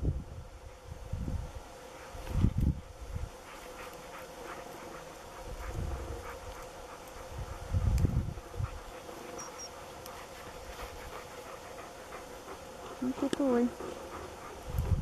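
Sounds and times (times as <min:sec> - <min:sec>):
wind buffeting microphone: 0:00.0 - 0:09.3, 0:10.4 - 0:15.0
faint hum: 0:00.0 - 0:15.0
dog rustling through grass: 0:00.6 - 0:15.0.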